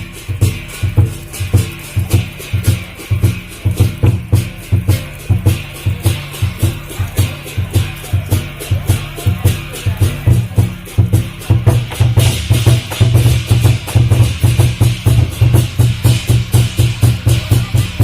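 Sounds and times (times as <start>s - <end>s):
cymbal crashes: 0.0s - 18.0s
drum beating fast rhythm: 0.0s - 18.0s.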